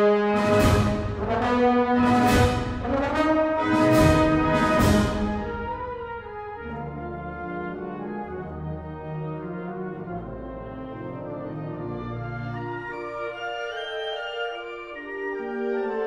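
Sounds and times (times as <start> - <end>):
wind ensemble playing chords: 0.0 - 16.0.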